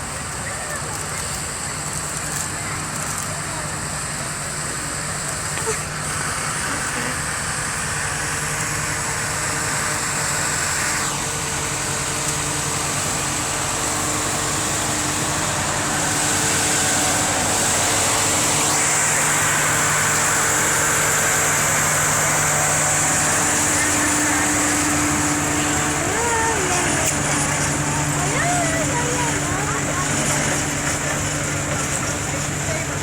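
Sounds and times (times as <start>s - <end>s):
tractor engines running: 0.0s - 33.0s.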